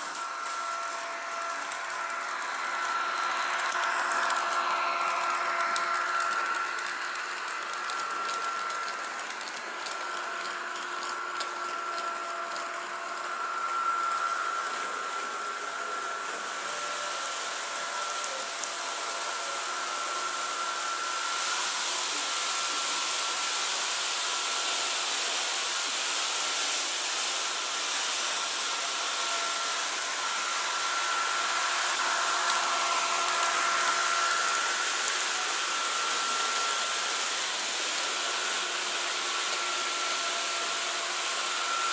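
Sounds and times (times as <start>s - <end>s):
model train motors whining: 0.0s - 41.9s.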